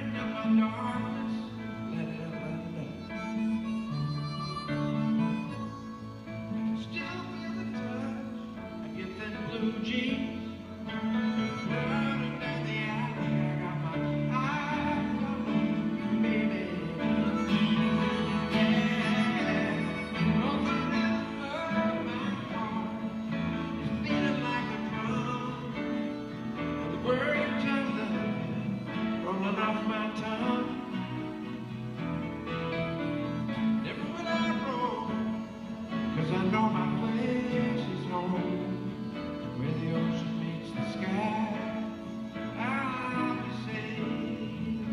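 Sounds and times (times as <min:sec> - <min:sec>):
acoustic guitar: 0:00.0 - 0:44.9
harmonica melody with bending notes: 0:00.0 - 0:44.9
piano accompaniment: 0:00.0 - 0:44.9.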